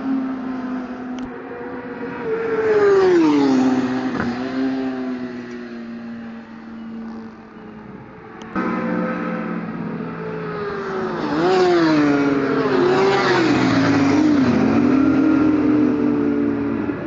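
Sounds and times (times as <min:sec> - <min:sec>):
race car passing at speed: 0:01.5 - 0:07.3, 0:08.5 - 0:17.0.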